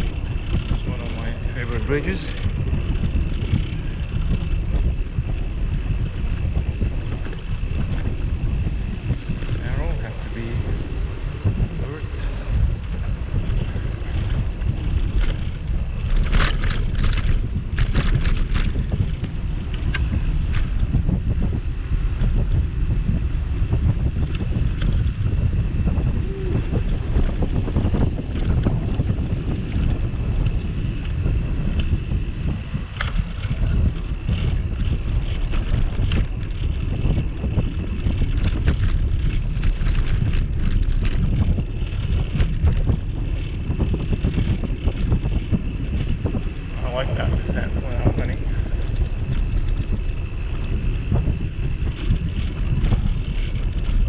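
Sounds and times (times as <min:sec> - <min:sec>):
low rumble from bicycle ride: 0:00.0 - 0:54.0
sharp clicks and rattles: 0:00.0 - 0:54.0
wind buffeting microphone: 0:00.0 - 0:54.0.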